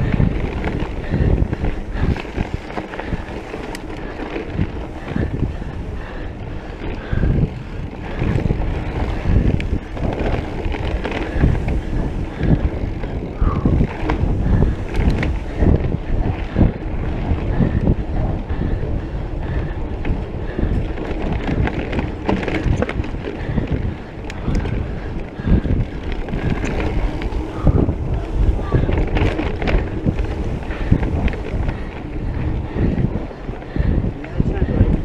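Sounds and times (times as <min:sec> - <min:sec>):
bike knocks and rattles: 0:00.0 - 0:35.0
wind buffeting microphone: 0:00.0 - 0:35.0.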